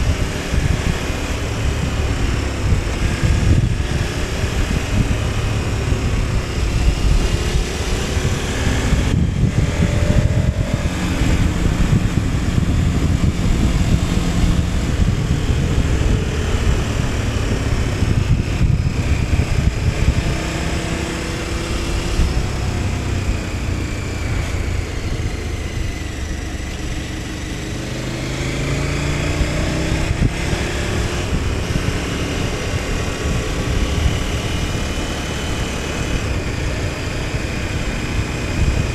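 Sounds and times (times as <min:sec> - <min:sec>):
motorcycle engine revving: 0:00.0 - 0:38.9
wind rushing over microphone: 0:00.0 - 0:38.9.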